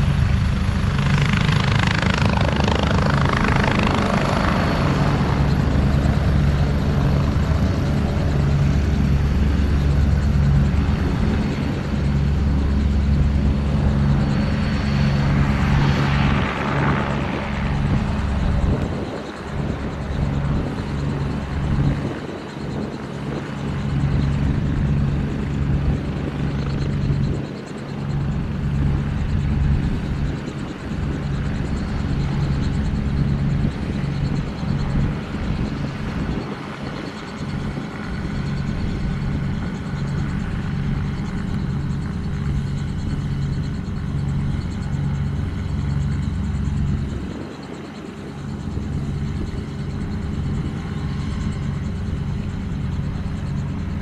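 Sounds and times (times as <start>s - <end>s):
helicopter rotor beat: 0.0s - 54.0s
turbine whine: 0.0s - 54.0s.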